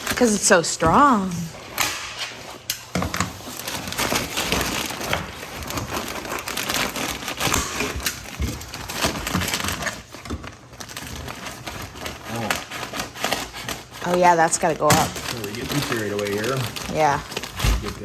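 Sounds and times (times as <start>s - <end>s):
material crinkling: 0.0s - 18.0s.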